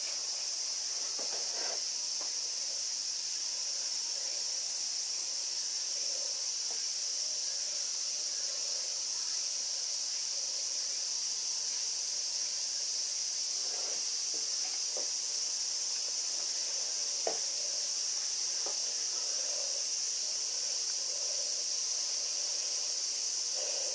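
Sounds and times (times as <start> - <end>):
high-pitched insect drone: 0.0 - 23.9.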